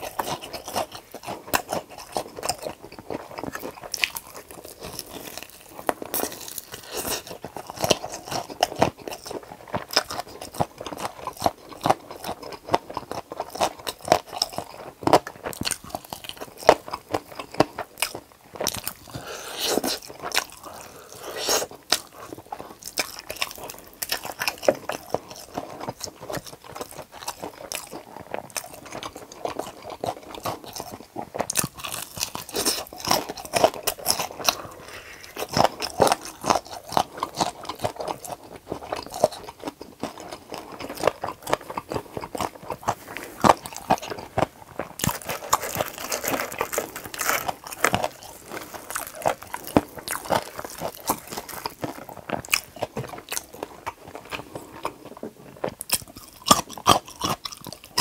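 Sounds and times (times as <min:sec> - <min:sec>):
chewing: 0:00.0 - 0:58.0
crunching fried chicken: 0:00.0 - 0:58.0.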